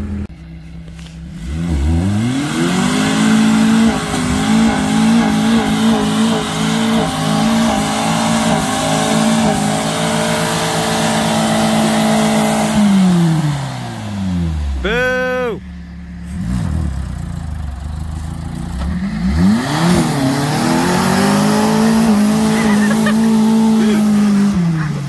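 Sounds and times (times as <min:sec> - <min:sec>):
car engine revving: 0:00.9 - 0:25.0.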